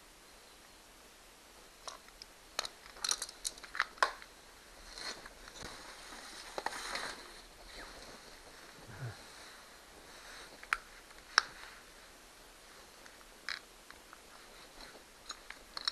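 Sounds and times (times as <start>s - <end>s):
rustling and crinkling: 1.6s - 15.9s.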